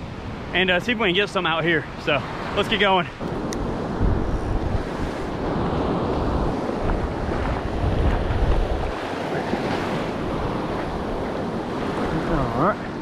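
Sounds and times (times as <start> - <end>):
surf breaking on beach: 0.0 - 13.0
wind buffeting microphone: 1.8 - 13.0.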